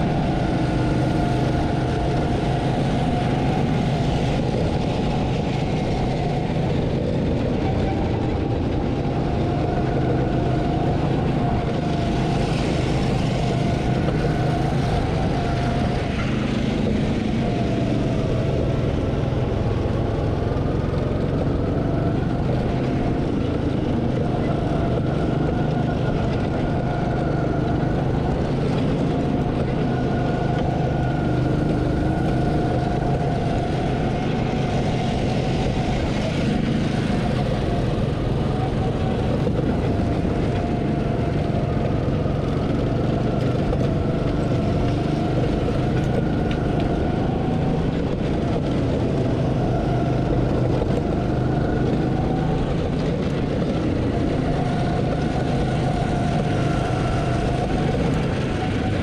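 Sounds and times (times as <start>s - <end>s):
go-kart engines running: 0.0s - 59.0s.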